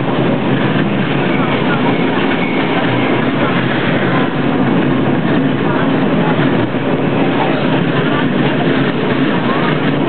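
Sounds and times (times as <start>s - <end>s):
faint voices: 0.0s - 10.0s
tram rolling on rails: 0.0s - 10.0s.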